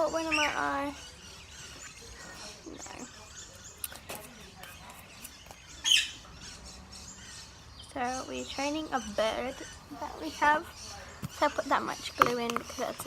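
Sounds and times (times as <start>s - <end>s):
bird chirp: 0.0s - 13.0s.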